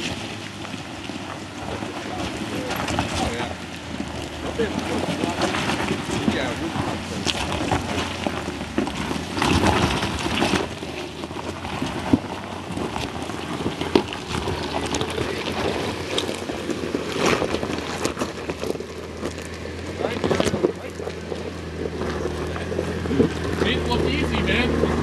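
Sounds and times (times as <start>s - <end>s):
engine running low: 0.0s - 25.0s
tyres crunching over rock: 0.0s - 25.0s.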